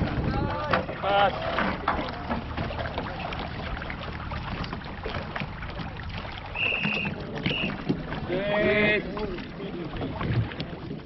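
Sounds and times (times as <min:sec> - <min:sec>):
outboard motor running: 0:00.0 - 0:11.0
water and wind noise: 0:00.0 - 0:11.0.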